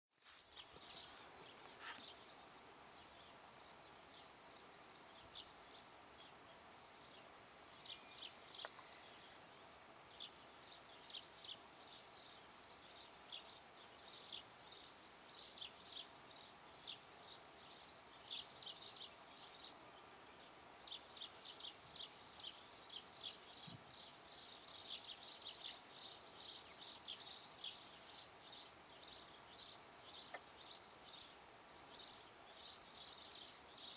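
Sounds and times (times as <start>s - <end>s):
low steady hiss: 0.2s - 33.9s
small birds chirping: 0.2s - 33.9s.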